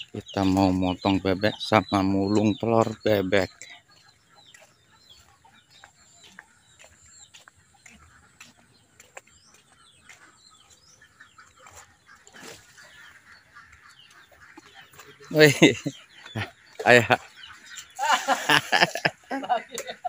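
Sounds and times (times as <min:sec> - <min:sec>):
fowl calling: 0:00.0 - 0:20.0
small birds chirping: 0:00.0 - 0:20.0
footsteps clicking: 0:00.1 - 0:12.2, 0:12.8 - 0:17.9.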